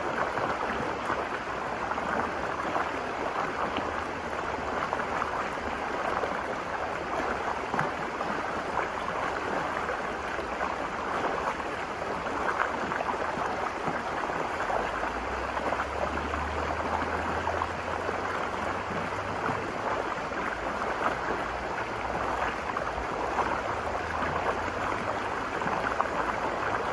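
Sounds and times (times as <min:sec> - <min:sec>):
river water rushing over rocks: 0:00.0 - 0:26.9.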